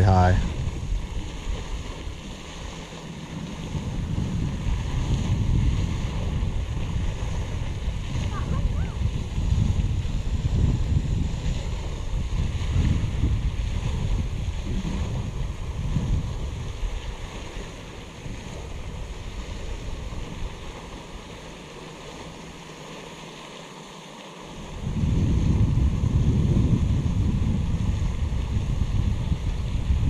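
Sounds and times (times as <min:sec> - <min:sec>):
wind buffeting microphone: 0:00.0 - 0:22.6, 0:24.6 - 0:30.0.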